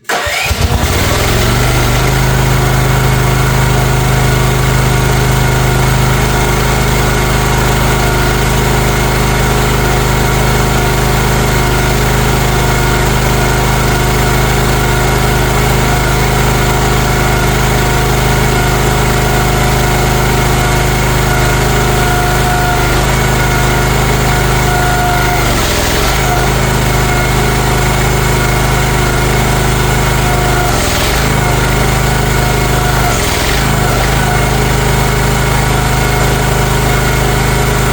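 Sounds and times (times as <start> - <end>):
excavator engine idling: 0.1 - 37.9.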